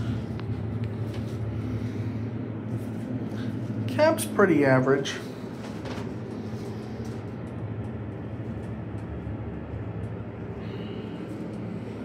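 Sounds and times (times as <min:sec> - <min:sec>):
elevator hum and rumble: 0:00.0 - 0:12.0.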